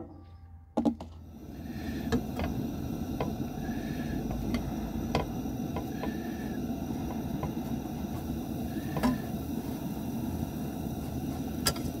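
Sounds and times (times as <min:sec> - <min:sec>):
stove burner hissing: 0:01.0 - 0:12.0.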